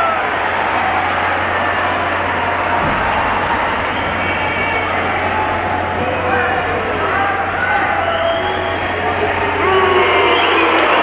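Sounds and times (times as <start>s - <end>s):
loud arena crowd din: 0.0s - 11.0s.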